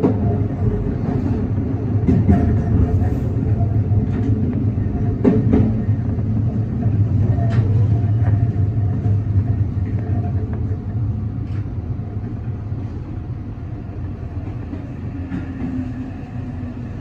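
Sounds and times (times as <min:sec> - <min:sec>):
electric train rumble: 0:00.0 - 0:17.0
passing train: 0:00.0 - 0:17.0.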